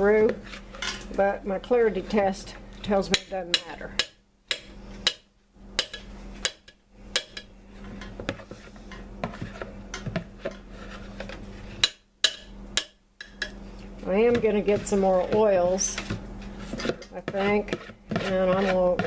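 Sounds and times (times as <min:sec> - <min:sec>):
spatula scraping and tapping a pot: 0:00.0 - 0:01.2, 0:02.8 - 0:19.0.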